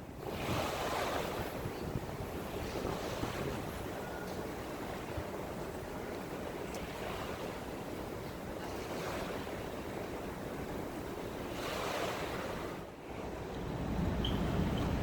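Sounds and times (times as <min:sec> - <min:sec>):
waves washing ashore: 0:00.0 - 0:15.0
wind: 0:00.0 - 0:15.0.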